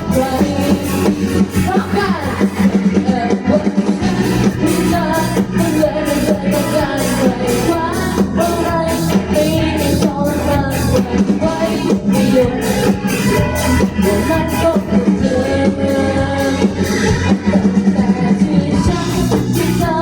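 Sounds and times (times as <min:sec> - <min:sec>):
person singing: 0:00.0 - 0:20.0
rock band playing: 0:00.0 - 0:20.0.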